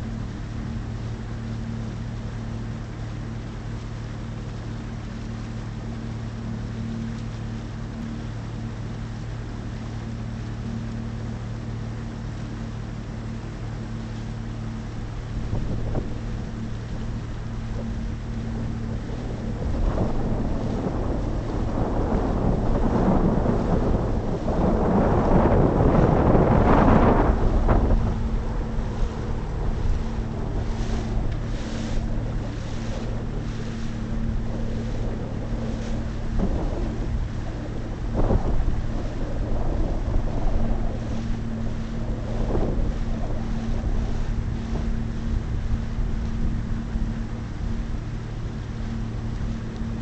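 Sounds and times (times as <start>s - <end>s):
wind buffeting microphone: 0.0s - 6.8s, 10.5s - 50.0s
boat engine humming: 0.0s - 50.0s.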